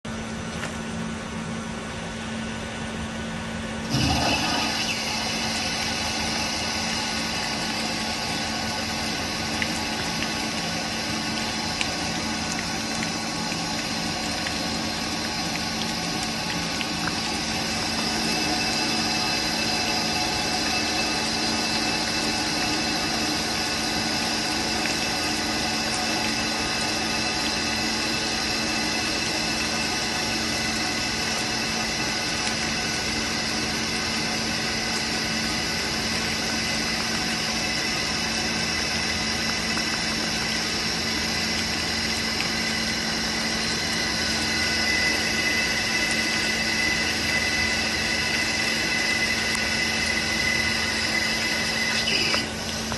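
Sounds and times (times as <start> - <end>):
lathe running with high whine: 3.8 - 52.9.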